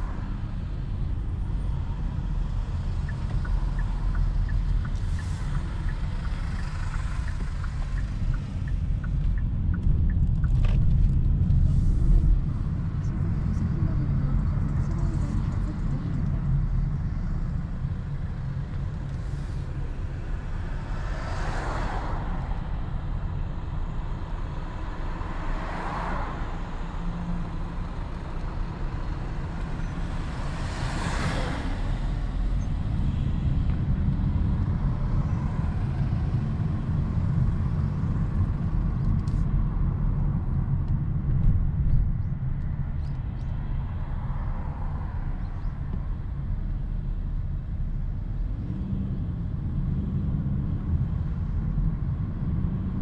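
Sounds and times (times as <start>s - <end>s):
car engine and tyres rumbling: 0.0s - 53.0s
passing traffic rushing: 0.0s - 53.0s.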